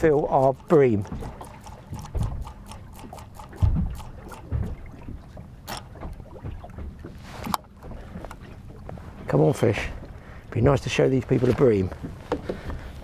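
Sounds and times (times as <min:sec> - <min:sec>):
low thumps from boat: 0:00.0 - 0:02.6, 0:03.5 - 0:10.9, 0:11.5 - 0:13.0
light clicks and knocks of gear: 0:00.0 - 0:13.0
water lapping against boat hull: 0:00.0 - 0:13.0.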